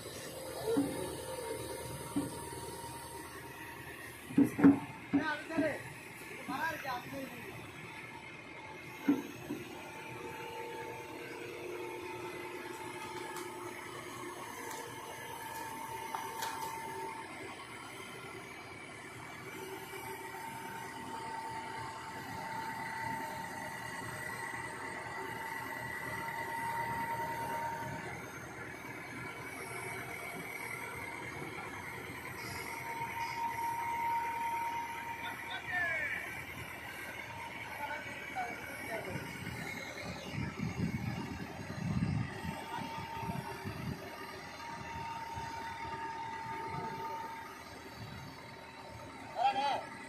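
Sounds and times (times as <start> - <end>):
excavator engine drone with whine: 0.0 - 50.0.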